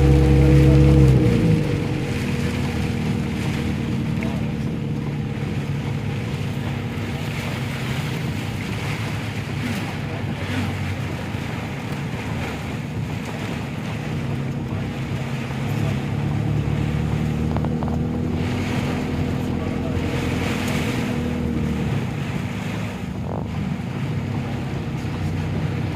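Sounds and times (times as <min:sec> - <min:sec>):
low engine hum: 0:00.0 - 0:25.9.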